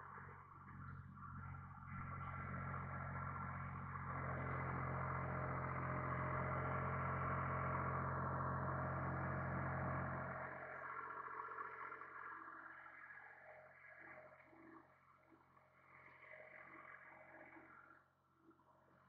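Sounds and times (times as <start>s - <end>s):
tractor engine drone: 0.0s - 19.0s.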